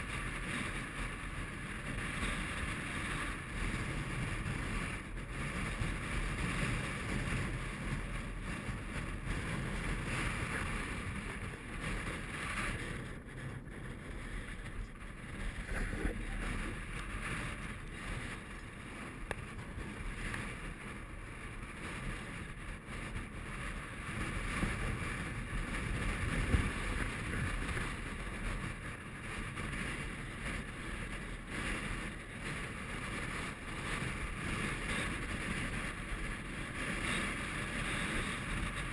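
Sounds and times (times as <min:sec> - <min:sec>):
wind blowing across microphone: 0:00.0 - 0:38.9.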